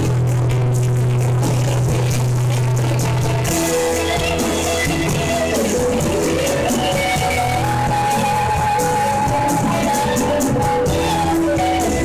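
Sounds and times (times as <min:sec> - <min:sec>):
live band on electric guitars and bass: 0:00.0 - 0:12.0.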